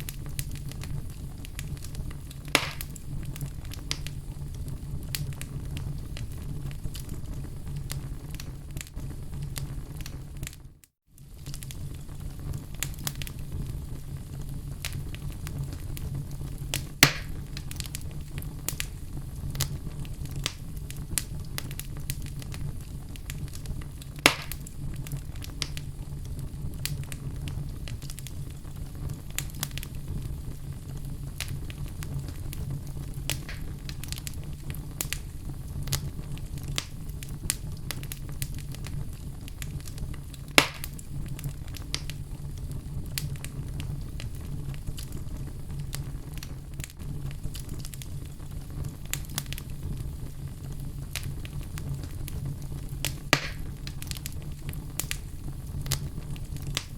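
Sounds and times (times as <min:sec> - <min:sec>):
fire crackling: 0:00.0 - 0:56.9
loud fire pops: 0:00.0 - 0:56.9.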